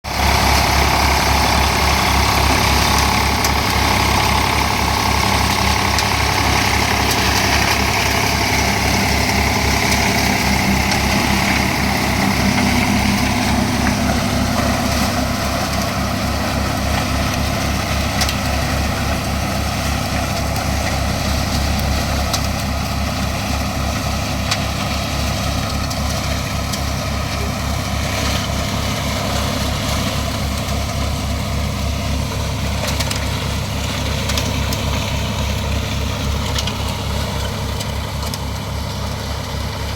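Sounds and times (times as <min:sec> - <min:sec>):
tractor diesel engine rumble: 0:00.0 - 0:39.9
mulcher whirring: 0:00.1 - 0:39.9.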